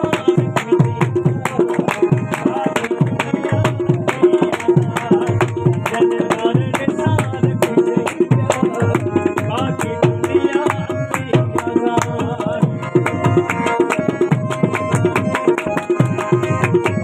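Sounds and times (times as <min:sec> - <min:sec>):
tabla playing: 0:00.0 - 0:17.0.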